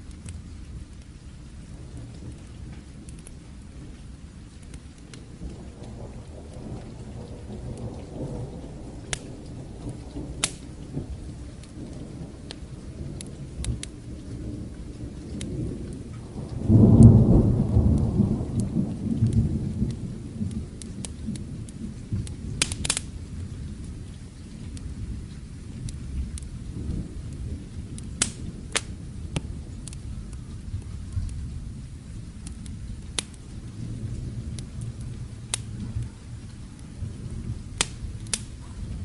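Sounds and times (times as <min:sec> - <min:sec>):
crackling fire pops: 0:00.0 - 0:39.0
distant thunder rumbling: 0:00.0 - 0:39.0
steady rain: 0:00.0 - 0:39.0.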